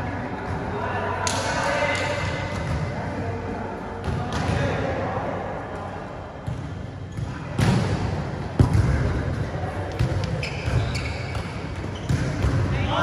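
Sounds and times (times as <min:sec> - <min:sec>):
players' voices: 0:00.0 - 0:13.0.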